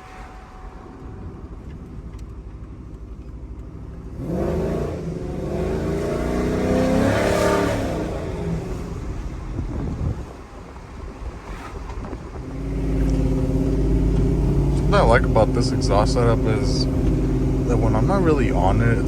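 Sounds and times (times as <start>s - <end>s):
truck engine revving: 0.0s - 10.2s, 11.5s - 19.0s.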